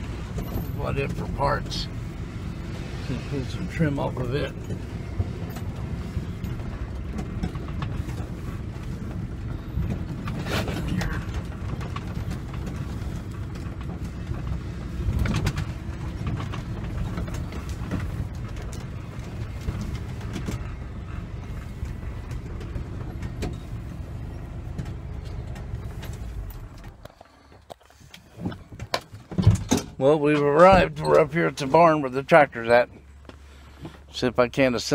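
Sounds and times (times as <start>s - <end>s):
knocks and rattles over bumps: 0.0s - 34.9s
vehicle engine running: 0.0s - 34.9s.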